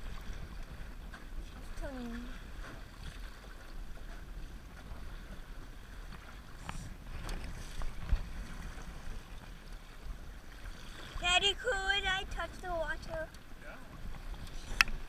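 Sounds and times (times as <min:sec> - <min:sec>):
water lapping against boat hull: 0:00.0 - 0:15.0
wind rumble on microphone: 0:00.0 - 0:15.0.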